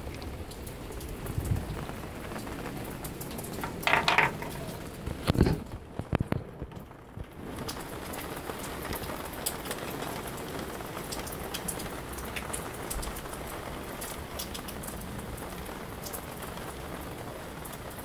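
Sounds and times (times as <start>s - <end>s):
rain falling: 0.0s - 18.0s
raindrops ticking: 0.0s - 18.0s.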